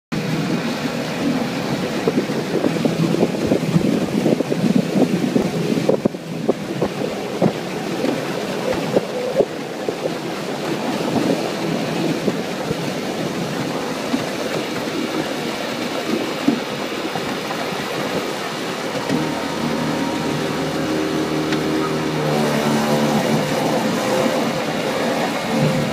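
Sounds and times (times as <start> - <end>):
wind buffeting microphone: 0.1 - 25.9
water slapping against hull: 0.2 - 25.9.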